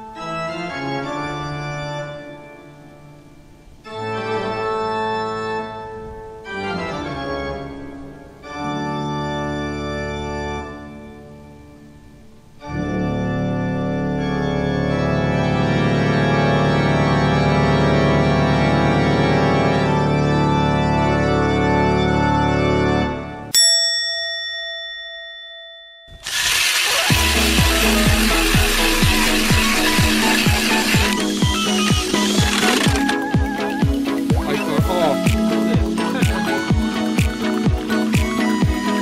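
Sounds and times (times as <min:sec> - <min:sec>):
organ chords: 0:00.0 - 0:03.2, 0:03.8 - 0:11.8, 0:12.6 - 0:23.5, 0:26.6 - 0:39.0.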